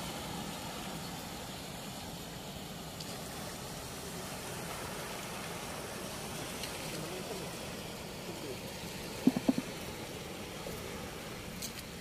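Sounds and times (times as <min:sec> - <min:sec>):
river water rushing through weir: 0:00.0 - 0:12.0.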